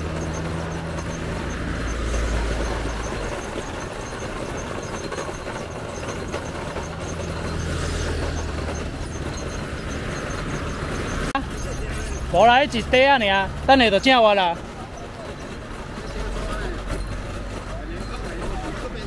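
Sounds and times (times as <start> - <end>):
engine humming: 0.0 - 19.0
street noise: 0.0 - 19.0.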